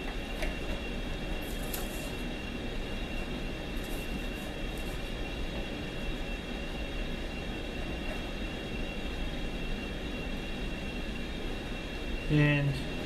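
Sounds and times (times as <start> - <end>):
lathe running with whine: 0.0 - 13.0.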